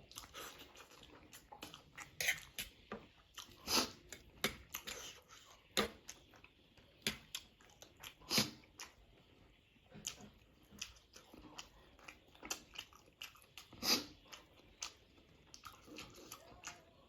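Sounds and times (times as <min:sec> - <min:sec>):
person chewing and slurping noodles: 0:00.0 - 0:09.4, 0:10.0 - 0:17.0.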